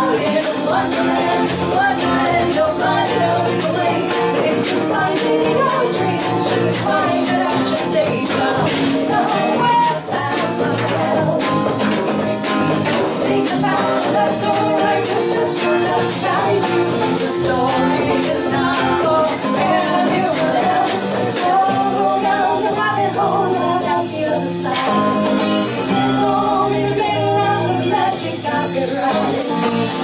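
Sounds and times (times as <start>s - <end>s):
hand percussion beat: 0.0s - 30.0s
strummed acoustic guitar: 0.0s - 30.0s
woman singing: 0.0s - 30.0s.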